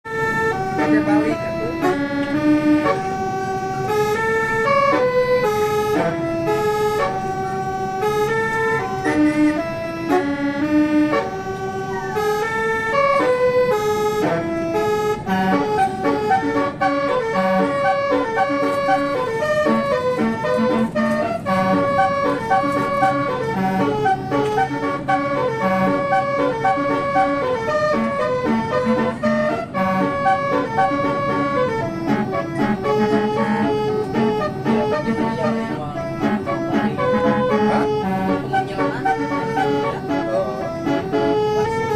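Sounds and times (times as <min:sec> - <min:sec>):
bus horn playing a melody: 0:00.1 - 0:41.9.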